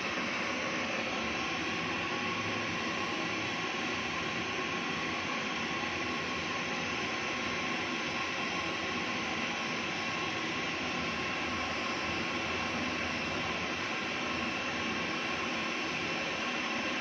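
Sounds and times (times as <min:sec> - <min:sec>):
gas torch flame hissing roar: 0:00.0 - 0:16.6.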